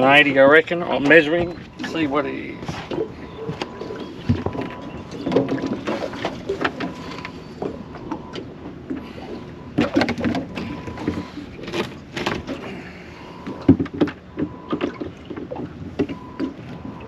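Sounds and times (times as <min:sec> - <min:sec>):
fish being handled on boat deck: 0:00.0 - 0:17.0.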